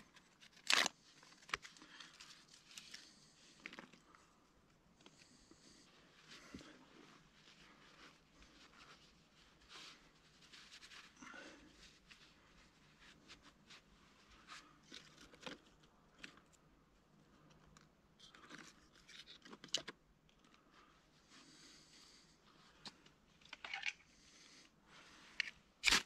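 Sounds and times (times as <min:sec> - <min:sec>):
rustling of things handled: 0:00.0 - 0:26.0.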